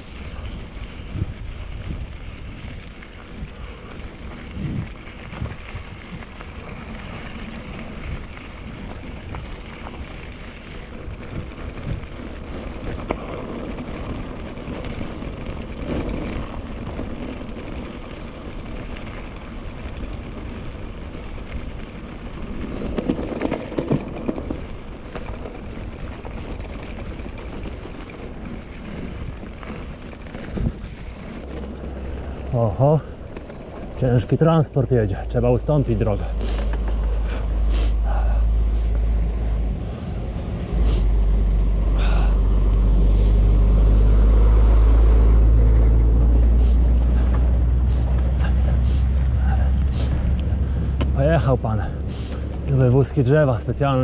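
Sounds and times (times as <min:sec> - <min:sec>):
tyres on gravel: 0:00.0 - 0:54.0
wind rushing over microphone: 0:00.0 - 0:54.0.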